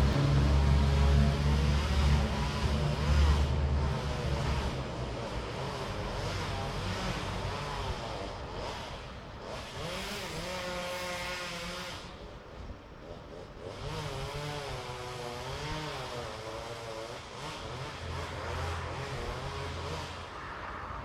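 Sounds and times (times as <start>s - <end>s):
machinery engine revving: 0.0s - 12.1s, 13.3s - 21.0s.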